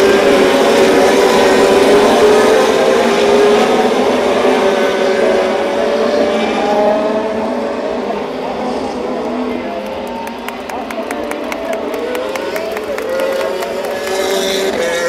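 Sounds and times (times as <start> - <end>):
racing car engines at speed: 0.0 - 15.0.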